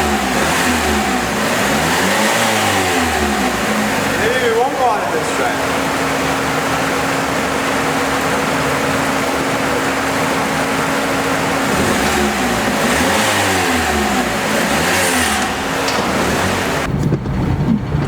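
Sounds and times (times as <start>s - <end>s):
car engine whining: 0.0s - 18.0s.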